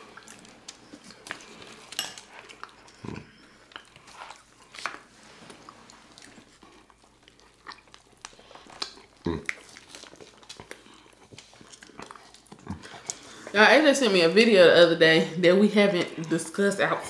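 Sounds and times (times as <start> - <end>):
chewing and wet mouth smacking: 0.0 - 14.2.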